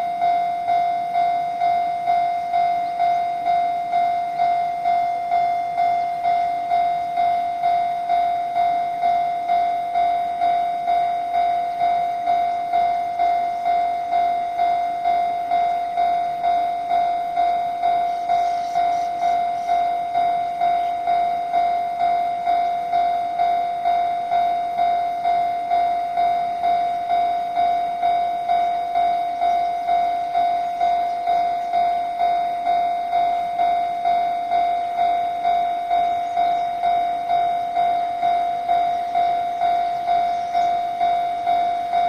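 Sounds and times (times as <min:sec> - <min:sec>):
level crossing electronic bell: 0:00.0 - 0:42.0.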